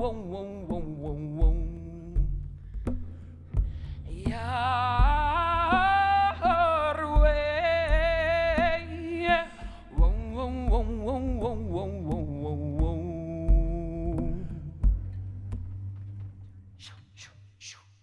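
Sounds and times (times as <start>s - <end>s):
low thumps: 0.0s - 16.9s.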